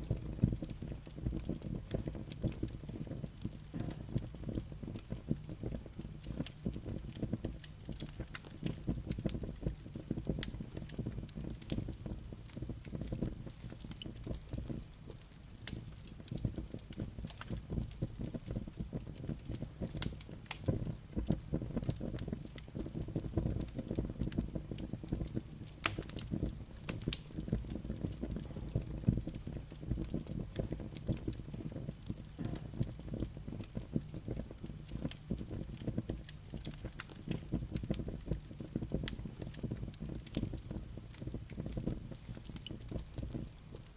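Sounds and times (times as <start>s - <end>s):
crackles and pops of burning logs: 0.0s - 43.9s
low rush of flames: 0.0s - 43.9s.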